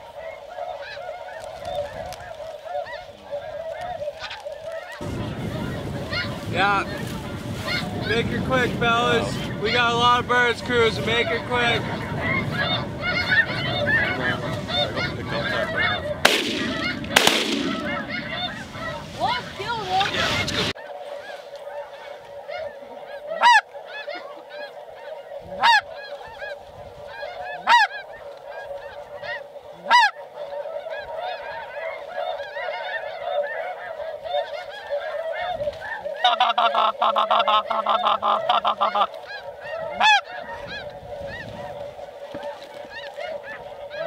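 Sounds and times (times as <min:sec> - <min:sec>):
flock of geese honking: 0:00.0 - 0:44.0.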